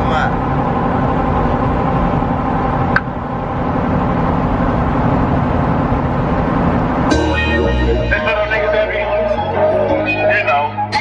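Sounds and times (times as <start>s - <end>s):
car cabin road noise: 0.0s - 11.0s.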